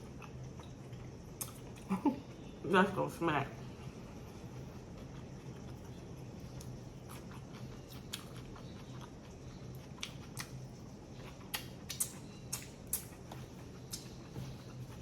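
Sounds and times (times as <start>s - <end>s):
person chewing with wet smacks: 0.0s - 1.9s, 3.7s - 15.0s
low steady hum: 0.0s - 15.0s.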